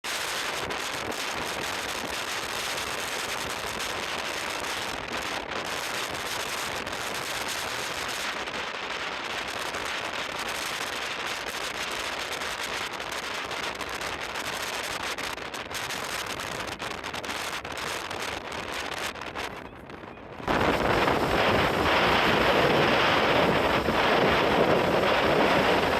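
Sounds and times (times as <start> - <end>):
wind blowing sand: 0.1 - 25.9.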